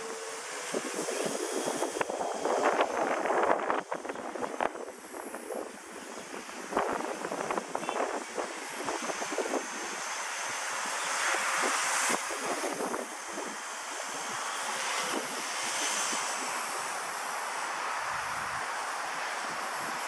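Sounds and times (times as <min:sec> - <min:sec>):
rotor rushing: 0:00.0 - 0:18.2
gusty wind noise: 0:00.0 - 0:20.0
toy helicopter motor whine: 0:00.0 - 0:20.0.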